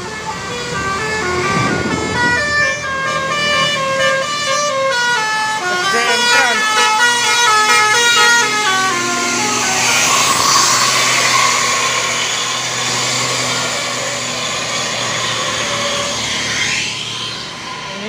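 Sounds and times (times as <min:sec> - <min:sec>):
musical bus horn tune: 0:00.0 - 0:16.8
bus engine passing: 0:00.0 - 0:18.0.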